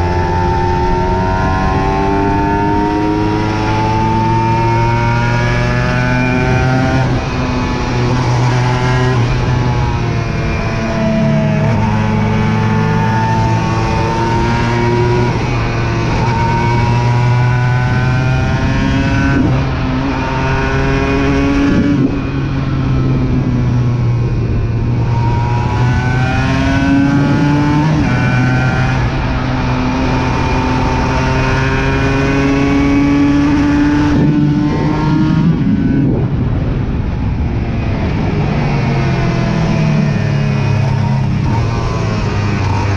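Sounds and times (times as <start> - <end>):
motorcycle engine shifting gears: 0.0 - 42.9.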